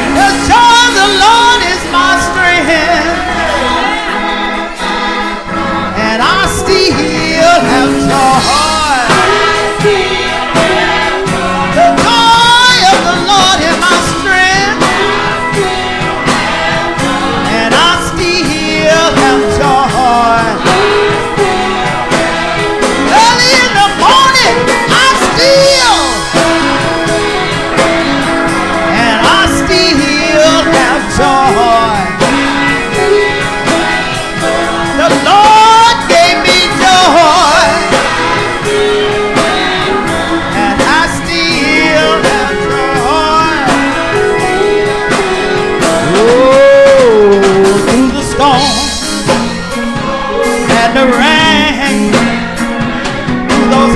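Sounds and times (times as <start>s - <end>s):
band accompaniment: 0.0s - 53.9s
person singing gospel: 0.0s - 53.9s.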